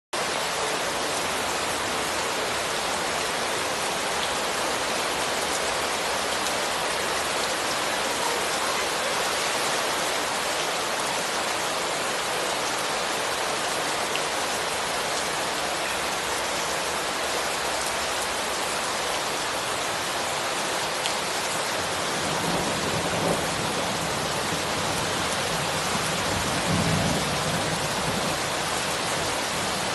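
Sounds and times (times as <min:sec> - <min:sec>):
heavy rain: 0:00.2 - 0:29.9.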